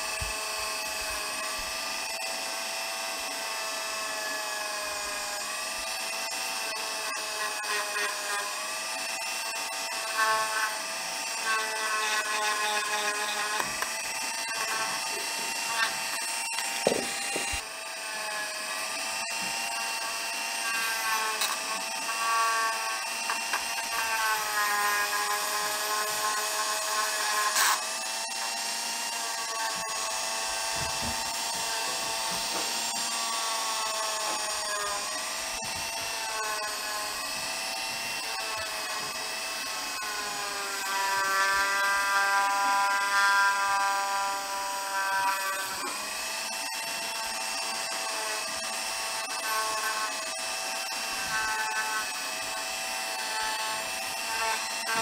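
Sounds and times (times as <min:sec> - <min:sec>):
rotary tool motor whine: 0:00.0 - 0:55.0.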